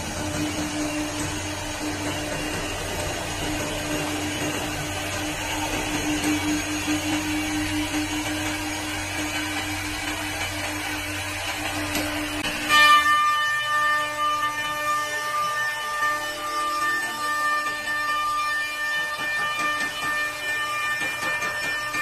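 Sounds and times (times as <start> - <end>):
wood lathe motor whine: 0.0 - 22.0.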